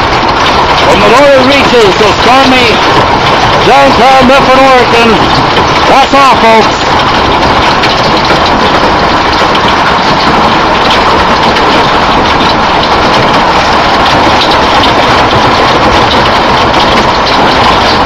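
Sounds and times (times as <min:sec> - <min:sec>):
heavy rain pouring: 0:00.0 - 0:18.0
raindrops ticking on hard surfaces: 0:00.0 - 0:18.0.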